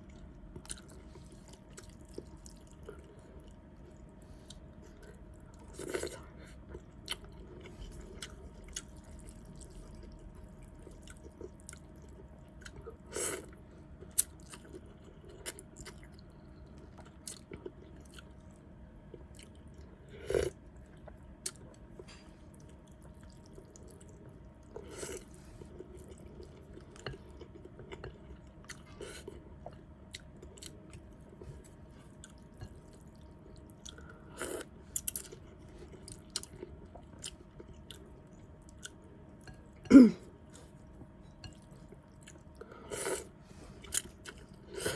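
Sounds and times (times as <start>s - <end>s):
chewing noodle soup: 0.0s - 44.9s.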